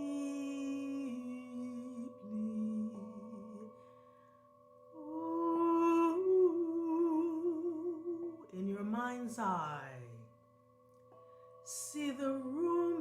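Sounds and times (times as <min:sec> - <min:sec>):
steady ringing drone: 0:00.0 - 0:13.0.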